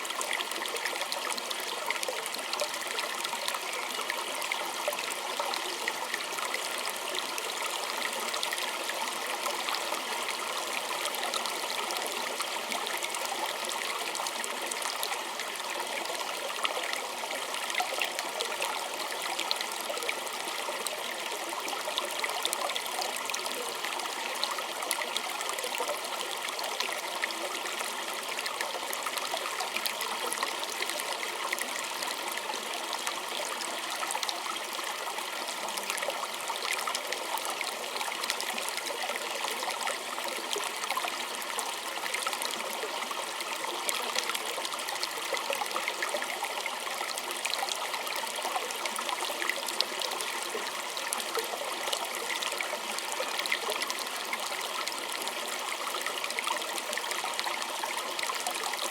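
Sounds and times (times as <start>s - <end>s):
stream trickling over stones: 0.0s - 58.9s.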